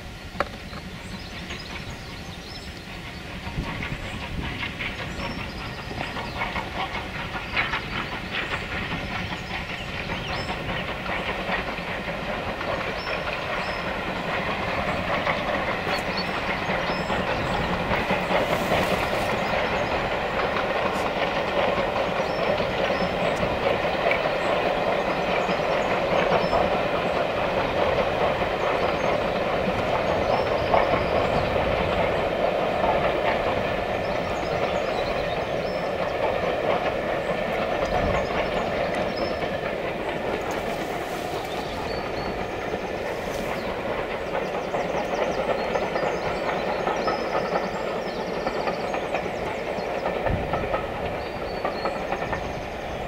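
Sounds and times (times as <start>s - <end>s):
steam train passing: 0.0s - 53.0s
wheels clattering over rail joints: 0.4s - 53.0s.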